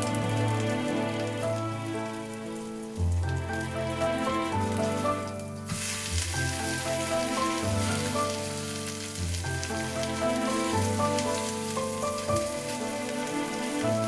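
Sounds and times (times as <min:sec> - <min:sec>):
background music: 0:00.0 - 0:14.0
pancake sizzling in oil: 0:00.0 - 0:14.0.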